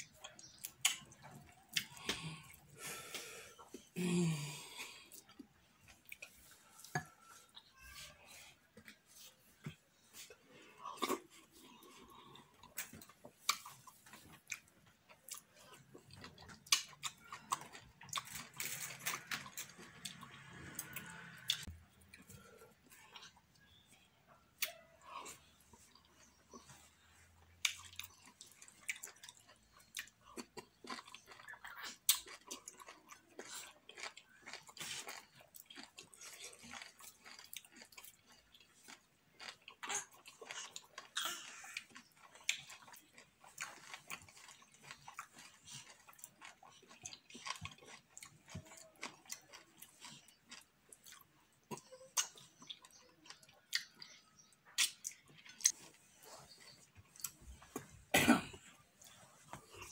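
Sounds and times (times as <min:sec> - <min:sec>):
chewing with mouth clicks and smacks: 0:00.0 - 0:04.0, 0:05.0 - 0:59.9.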